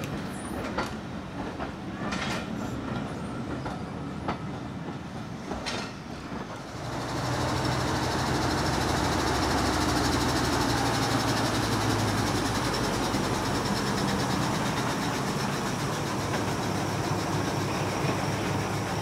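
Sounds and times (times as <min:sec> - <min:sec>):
diesel train engine: 0:00.0 - 0:19.0
train rumbling on track: 0:00.0 - 0:19.0.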